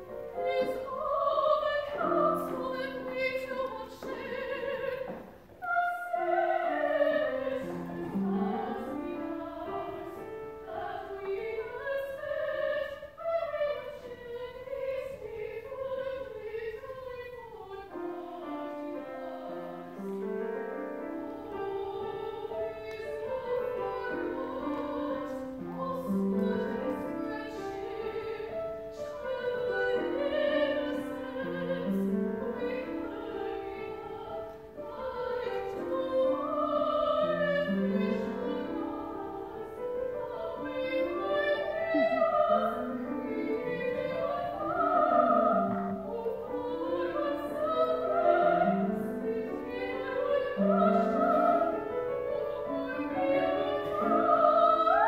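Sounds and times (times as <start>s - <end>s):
operatic singing: 0.0s - 20.0s, 21.3s - 55.0s
piano accompaniment: 0.0s - 55.0s.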